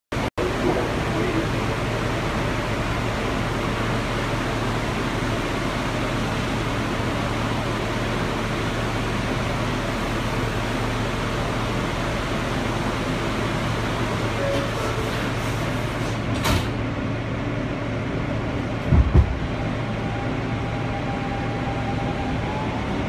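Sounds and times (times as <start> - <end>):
subway car air conditioning hum: 0.1 - 23.0.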